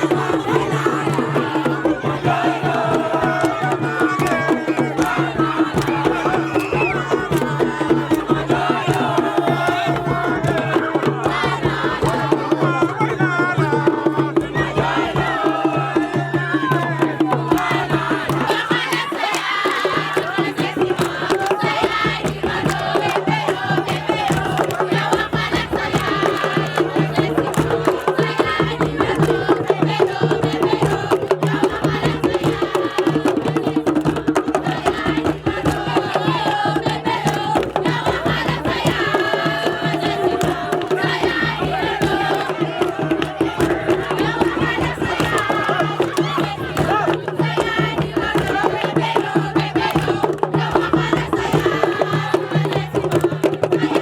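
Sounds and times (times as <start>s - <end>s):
dense rapid percussion: 0.0s - 54.0s
group singing and chanting: 0.0s - 54.0s.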